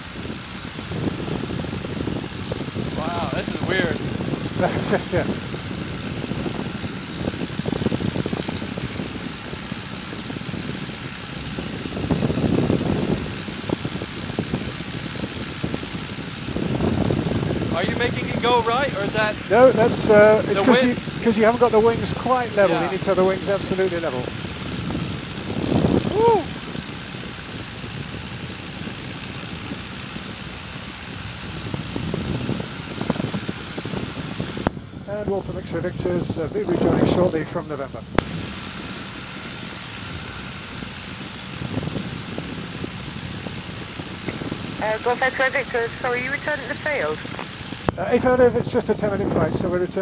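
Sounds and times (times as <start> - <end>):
wind rushing past: 0.0 - 48.6
propeller plane engine in flight: 0.0 - 50.0.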